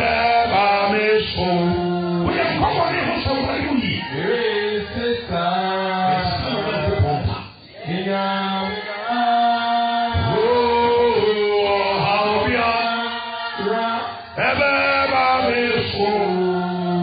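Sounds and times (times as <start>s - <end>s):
voices singing slow chant: 0.0s - 17.0s.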